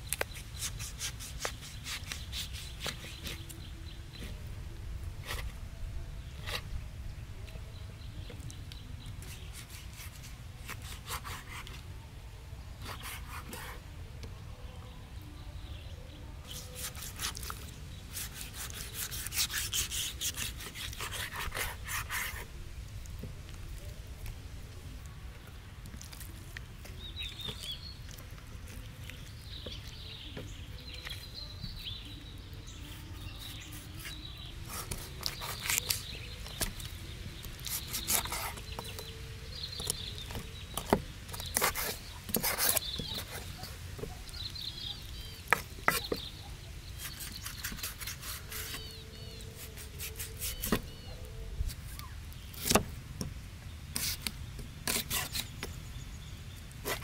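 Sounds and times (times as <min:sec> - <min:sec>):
birds chirping: 0:00.0 - 0:04.5, 0:12.8 - 0:57.0.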